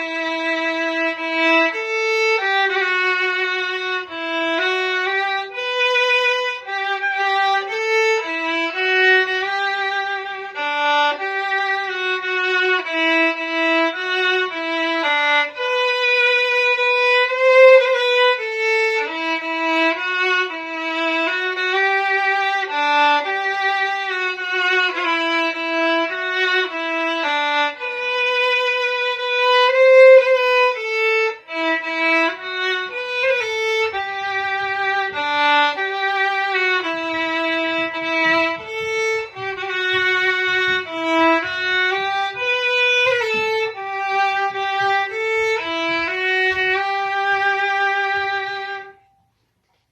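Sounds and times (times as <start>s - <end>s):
solo fiddle slow melody: 0.0s - 49.2s.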